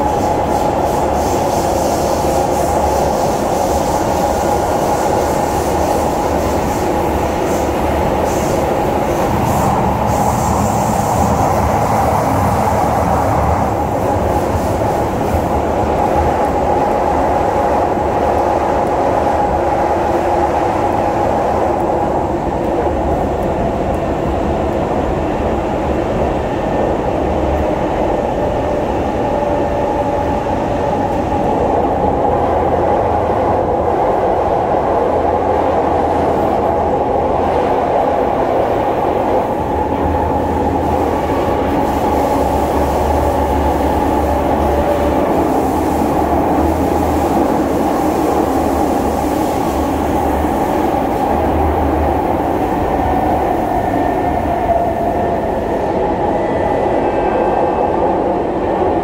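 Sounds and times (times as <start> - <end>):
metro train running: 0.0 - 59.0.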